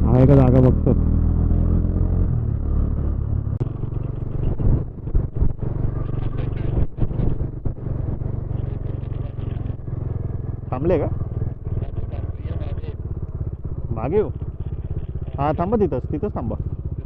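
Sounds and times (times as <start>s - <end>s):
motorcycle engine slowing: 0.0s - 17.0s.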